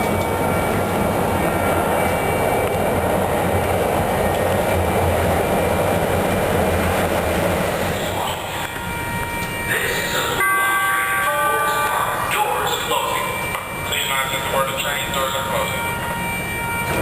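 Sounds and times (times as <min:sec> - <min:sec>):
train wheels on rail roaring: 0:00.0 - 0:17.0.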